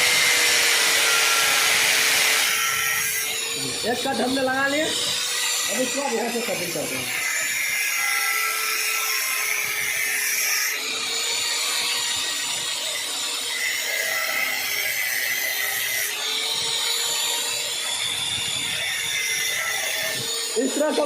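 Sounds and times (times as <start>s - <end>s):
angle grinder cutting: 0.0s - 21.0s.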